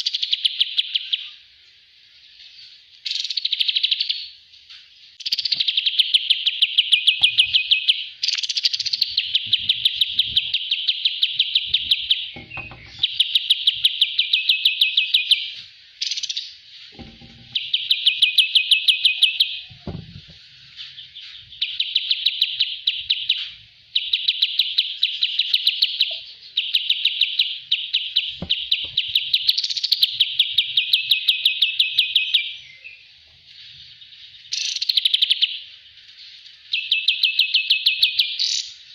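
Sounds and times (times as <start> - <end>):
bird singing pulsed trills: 0.0 - 4.4, 5.0 - 38.9.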